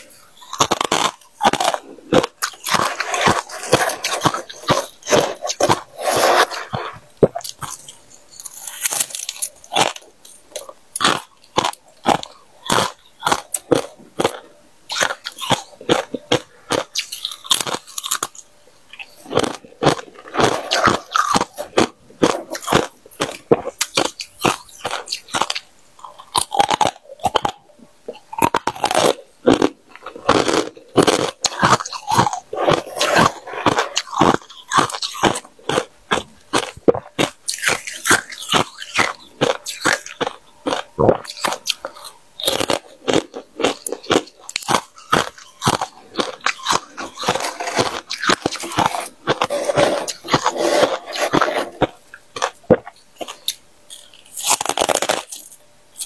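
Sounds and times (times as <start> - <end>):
frost being chewed: 0.0 - 56.0.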